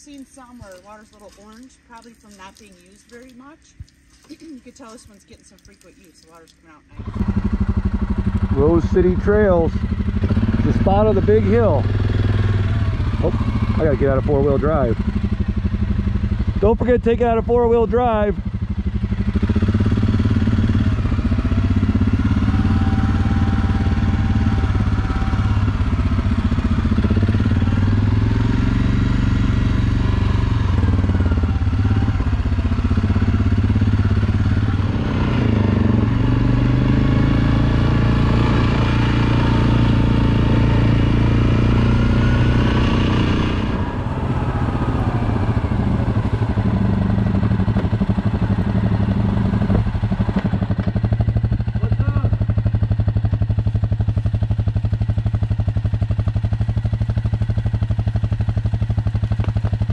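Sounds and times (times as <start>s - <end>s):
quad bike engines revving: 0.0s - 59.9s.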